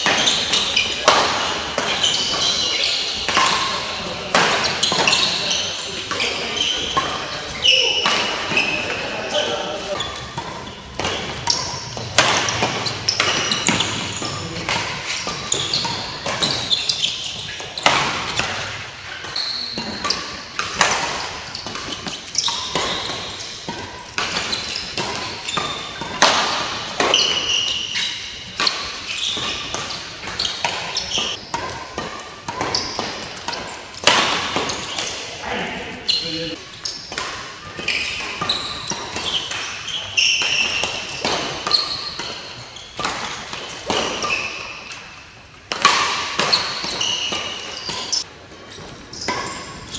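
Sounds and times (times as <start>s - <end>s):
rackets hitting shuttlecock: 0.0s - 35.7s, 36.5s - 49.9s
shoes squeaking: 0.0s - 49.9s.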